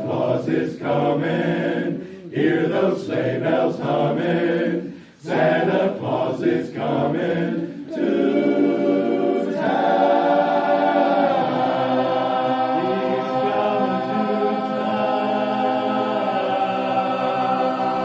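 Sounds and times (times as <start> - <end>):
a cappella harmony singing: 0.0 - 18.0.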